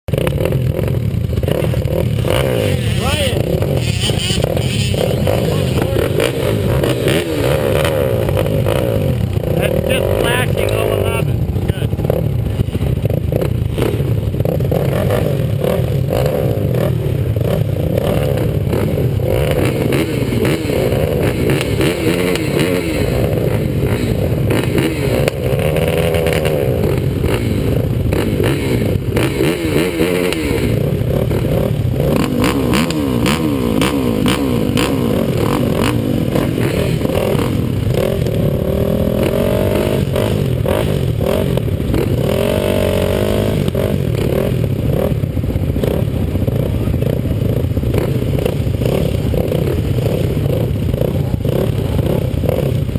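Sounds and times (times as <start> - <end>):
atv engines racing: 0.1 - 52.9.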